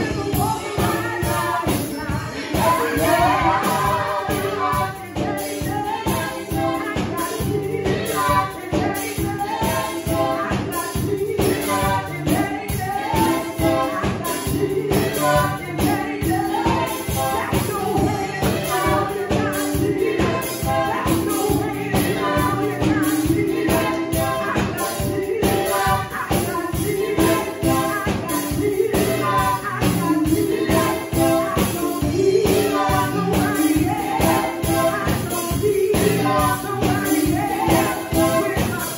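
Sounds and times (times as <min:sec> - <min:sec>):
upbeat gospel music: 0:00.0 - 0:38.9.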